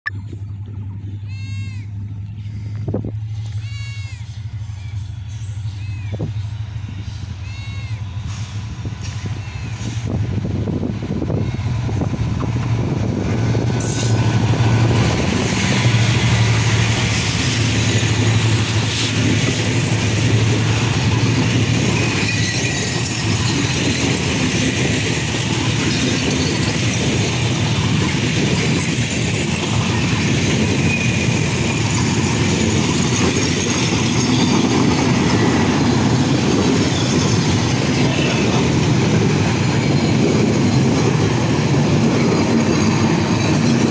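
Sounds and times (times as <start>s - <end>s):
locomotive engine drone: 0.1s - 43.9s
train wheels on rails: 2.0s - 43.9s.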